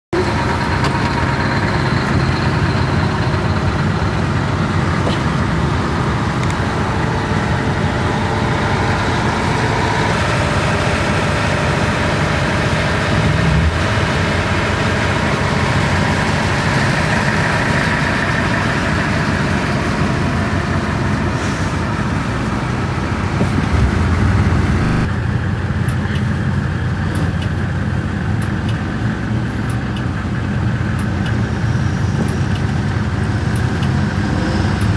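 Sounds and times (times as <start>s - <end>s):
diesel truck engine running: 0.1s - 34.9s.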